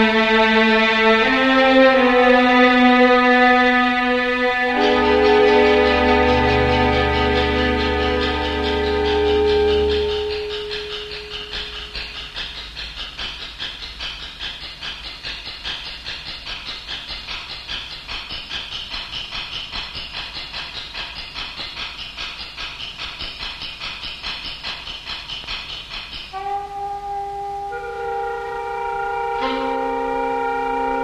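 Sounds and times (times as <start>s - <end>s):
rhythmic hissing chug: 0.0s - 31.0s.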